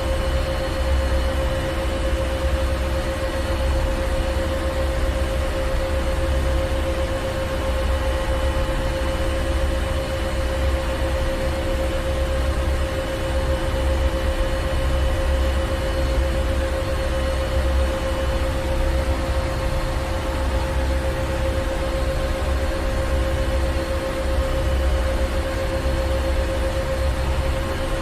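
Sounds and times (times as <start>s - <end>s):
constant hum: 0.0s - 28.0s.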